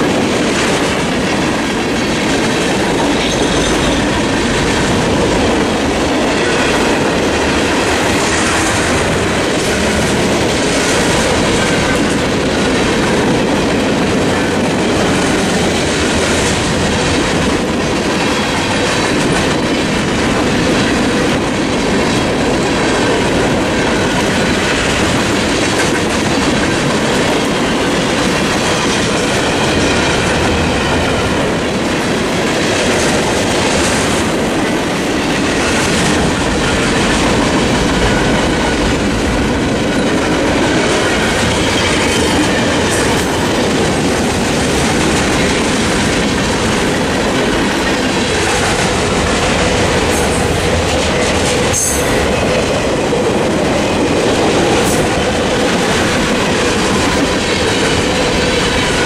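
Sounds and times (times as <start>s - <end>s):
clickety-clack over rail joints: 0.0s - 59.0s
freight train wheels rumbling on rails: 0.0s - 59.0s.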